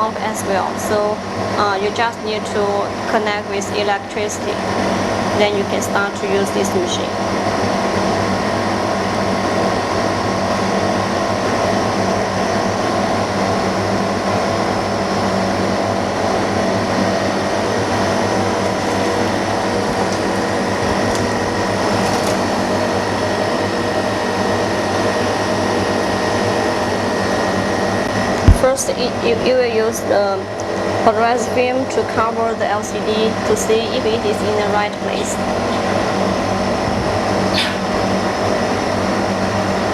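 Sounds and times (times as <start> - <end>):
electric machine hum: 0.0 - 39.9.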